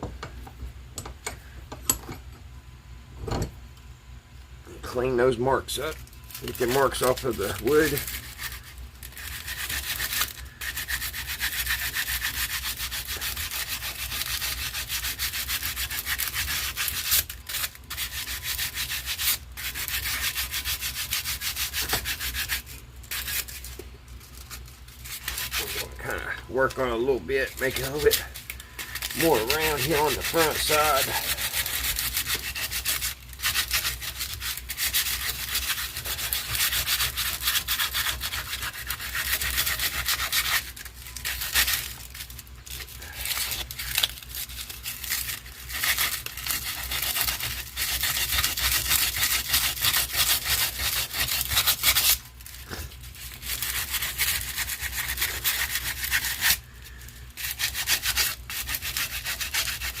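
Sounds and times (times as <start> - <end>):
sandpaper rubbing on wood: 6.4 - 23.7, 24.4 - 56.6, 57.4 - 60.0.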